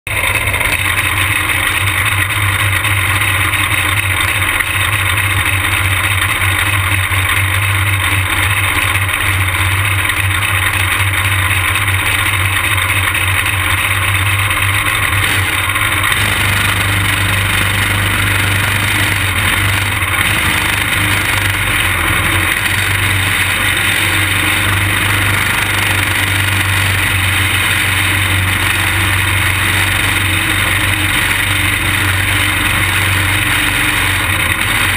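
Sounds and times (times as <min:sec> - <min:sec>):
kart engine running: 0:00.0 - 0:34.9.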